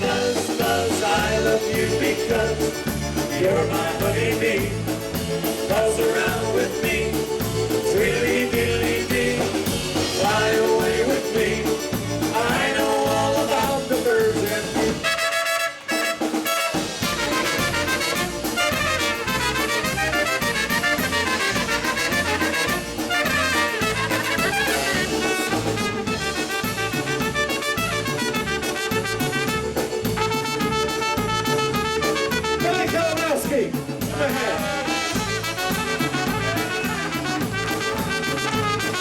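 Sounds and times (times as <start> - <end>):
brass band playing: 0.0 - 39.0.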